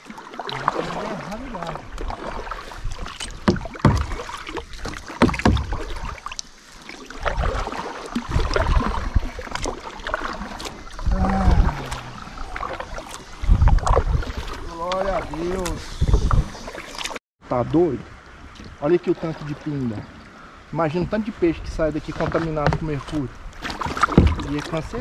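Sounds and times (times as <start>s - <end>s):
paddles splashing in water: 0.0s - 17.2s, 18.2s - 25.0s
low rumble from boat: 0.0s - 25.0s.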